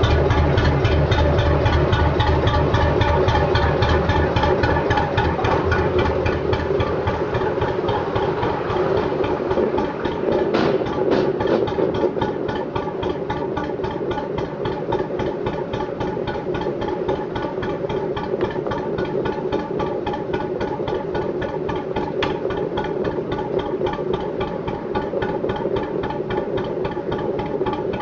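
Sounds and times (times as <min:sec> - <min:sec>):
boat diesel engine running: 0:00.0 - 0:28.0.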